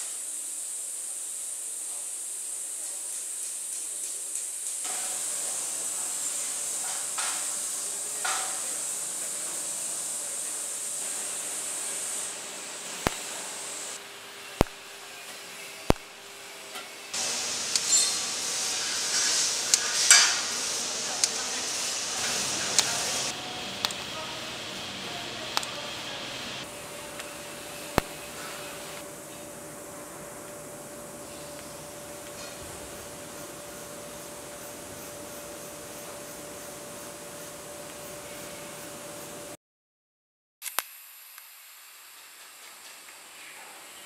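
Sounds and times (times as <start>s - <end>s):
welding arc hissing: 0.0s - 39.6s.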